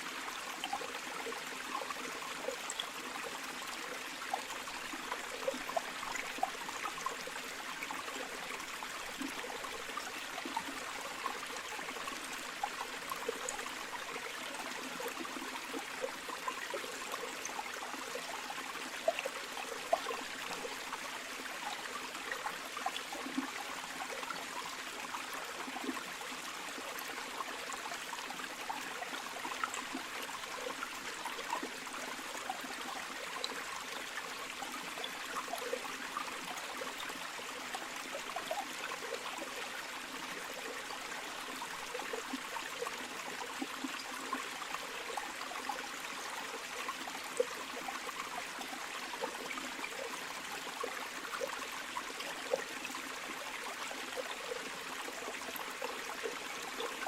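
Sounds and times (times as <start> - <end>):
shallow stream flowing: 0.0 - 57.0.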